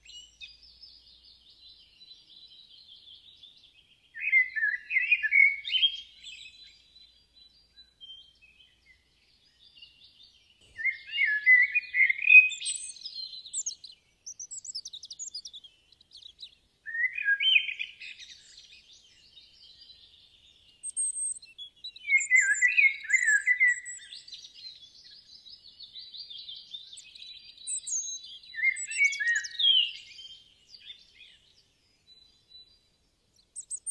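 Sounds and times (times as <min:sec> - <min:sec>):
faint bird twittering: 0:00.0 - 0:33.9
songbird singing: 0:00.0 - 0:33.9.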